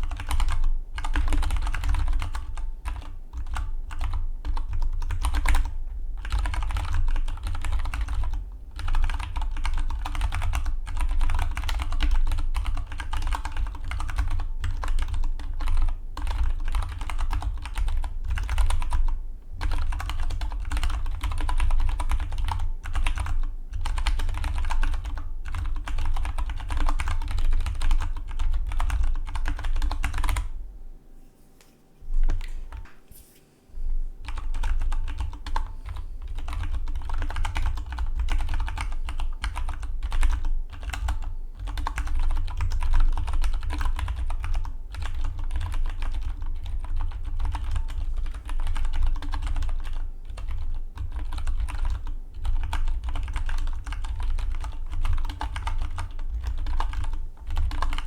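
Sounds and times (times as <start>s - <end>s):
mechanical keyboard typing: 0.0s - 30.5s, 32.2s - 32.8s, 34.2s - 58.0s.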